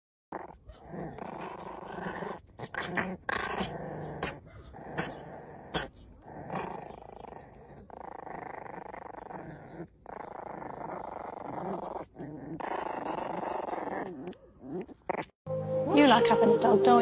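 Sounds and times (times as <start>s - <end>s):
puppy growling: 0.3s - 15.4s.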